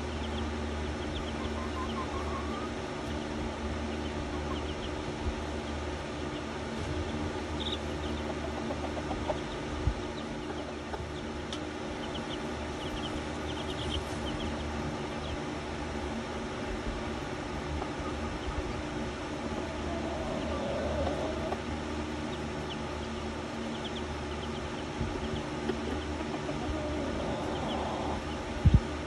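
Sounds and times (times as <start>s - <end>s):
chicks peeping: 0.0s - 29.0s
low hum: 0.0s - 29.0s.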